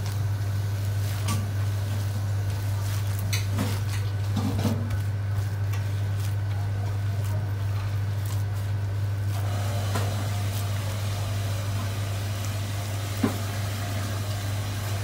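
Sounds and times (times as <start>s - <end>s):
hand kneading and slapping filling: 0.0s - 15.0s
steady low hum: 0.0s - 15.0s.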